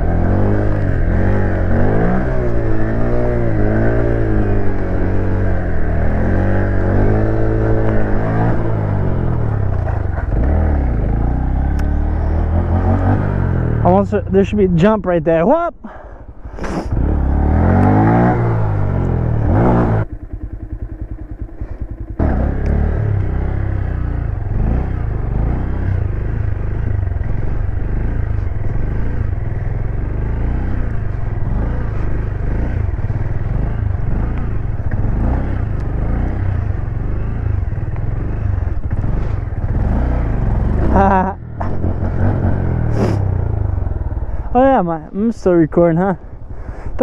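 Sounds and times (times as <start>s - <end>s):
motorcycle engine revving: 0.0s - 15.2s, 15.9s - 47.0s.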